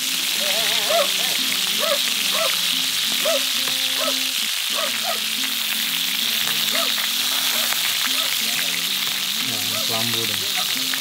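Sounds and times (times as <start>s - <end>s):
spoon basting steaks: 0.0s - 11.0s
steaks sizzling in a pan: 0.0s - 11.0s.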